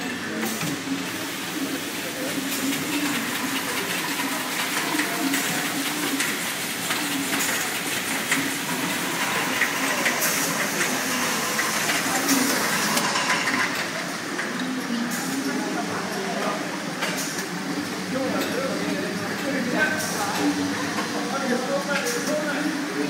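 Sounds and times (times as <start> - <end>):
bottling machine hiss and clatter: 0.0 - 23.0.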